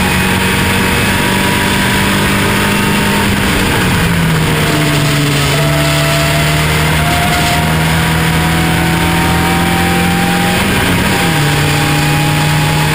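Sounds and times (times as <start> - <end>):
race car engine accelerating: 0.0 - 12.9.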